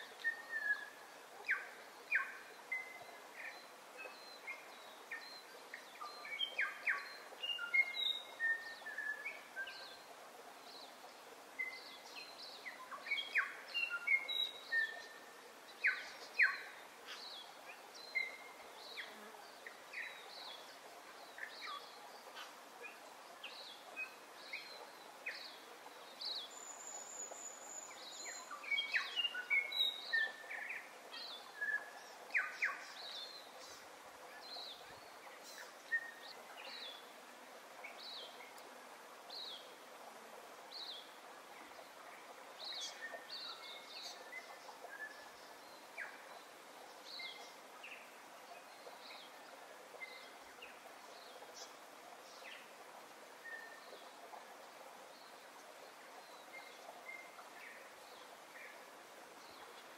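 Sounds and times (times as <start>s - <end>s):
faint hiss: 0.0s - 59.9s.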